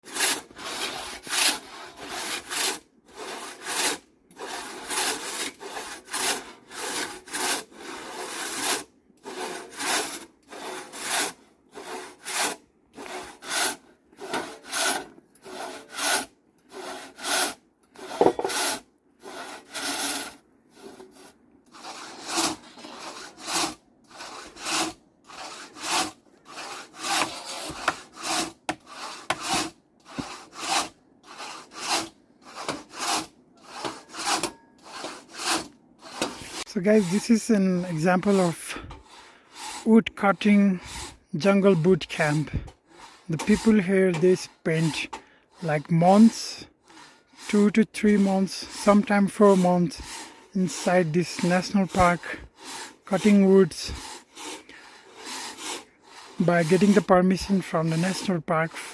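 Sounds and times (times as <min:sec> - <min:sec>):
hand saw cutting wood: 0:00.0 - 0:58.9.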